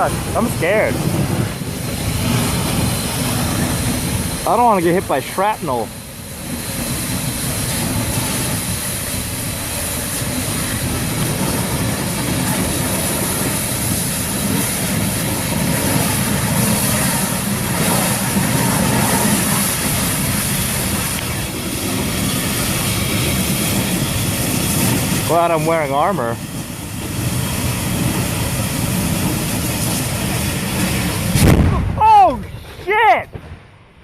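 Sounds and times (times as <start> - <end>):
fire roaring: 0.0 - 34.0.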